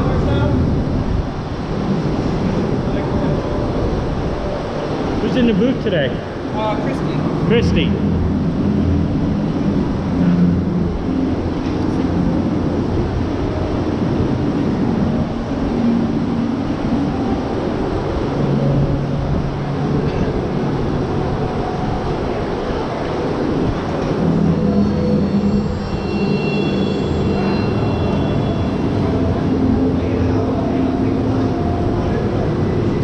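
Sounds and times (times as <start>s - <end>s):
faint hum: 0.0s - 33.0s
roller coaster rumbling on track: 0.0s - 33.0s.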